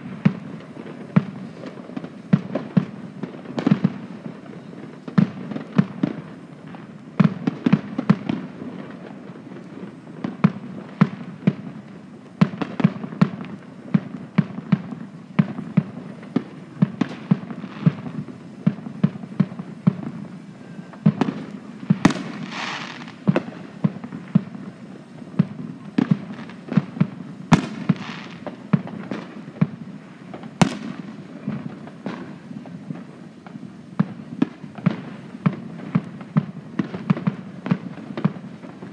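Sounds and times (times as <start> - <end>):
firework hiss: 0.0 - 38.9
fireworks bangs and pops: 0.0 - 38.9.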